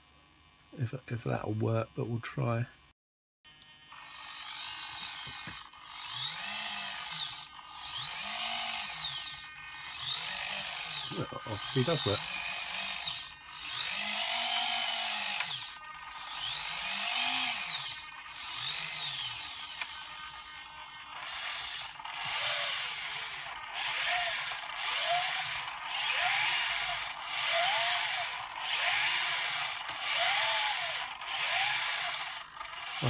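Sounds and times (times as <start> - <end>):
electric motor and gears whining: 3.5 - 33.0.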